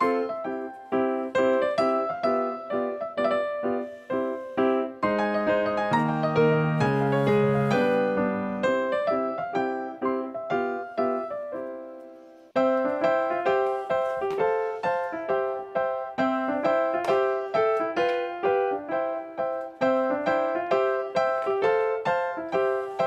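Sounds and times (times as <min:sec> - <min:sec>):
electric piano music: 0:00.0 - 0:23.0.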